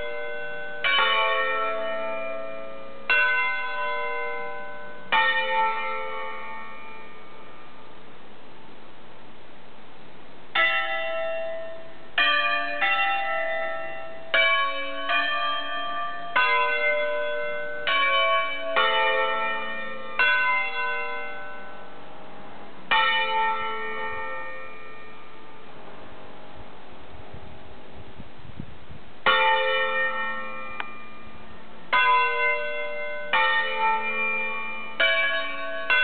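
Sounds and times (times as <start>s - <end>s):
church bells ringing a tune: 0.0s - 8.8s, 10.5s - 26.7s, 29.2s - 36.0s.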